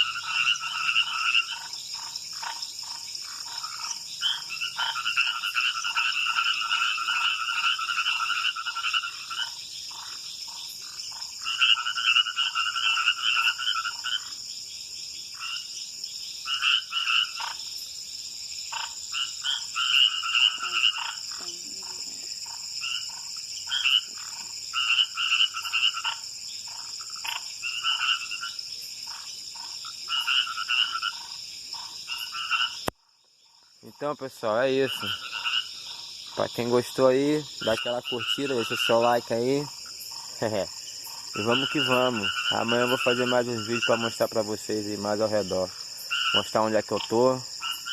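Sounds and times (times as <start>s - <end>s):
frogs calling: 0.0s - 47.9s.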